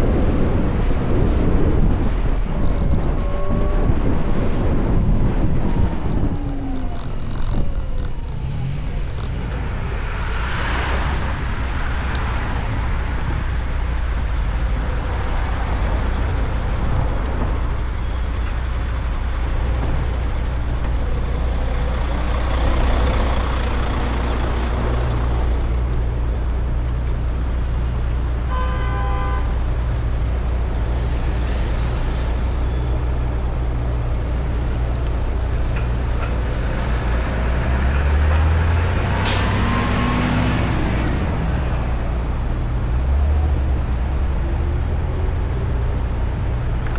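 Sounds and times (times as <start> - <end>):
traffic engine rumble: 0.0 - 46.9.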